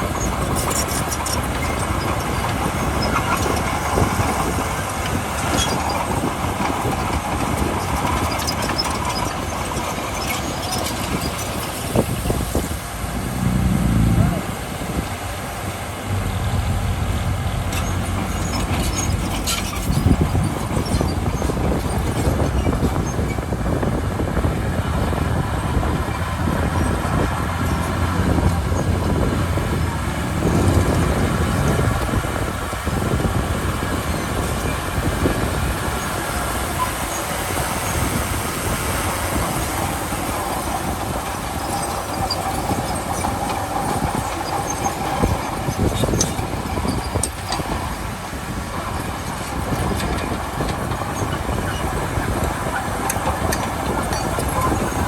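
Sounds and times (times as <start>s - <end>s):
diesel engine running: 0.0s - 55.0s
steel tracks clanking: 0.0s - 55.0s.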